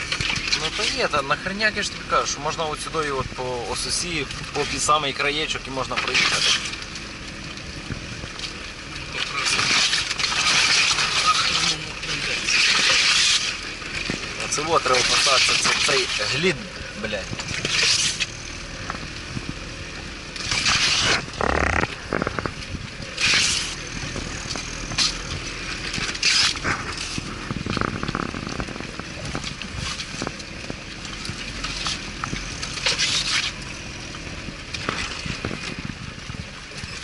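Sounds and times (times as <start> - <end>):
branches scraping vehicle body: 0.0 - 37.0
off-road vehicle engine running: 0.0 - 37.0.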